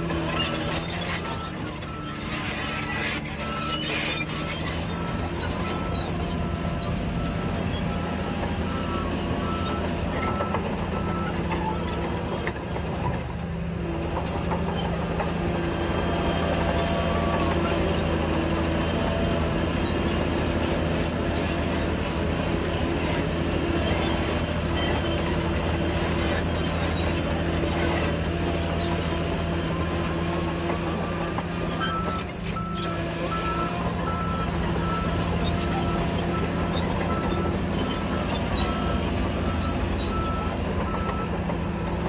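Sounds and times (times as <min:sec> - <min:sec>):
bulldozer diesel engine: 0:00.0 - 0:42.0
steel tracks clanking and squealing: 0:00.0 - 0:42.0.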